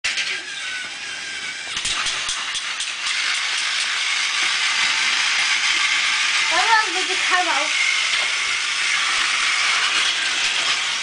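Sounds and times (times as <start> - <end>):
toy train whirring: 0.0 - 11.0.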